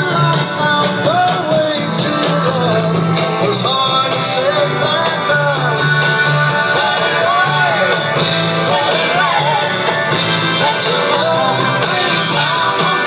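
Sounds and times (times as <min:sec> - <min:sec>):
bass line: 0:00.0 - 0:13.0
person singing: 0:00.0 - 0:13.0.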